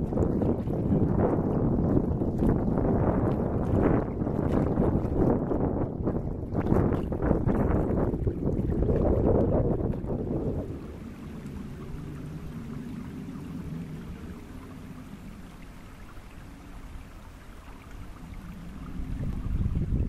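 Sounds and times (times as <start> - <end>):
lake water lapping: 0.0 - 20.0
wind on microphone: 0.0 - 20.0.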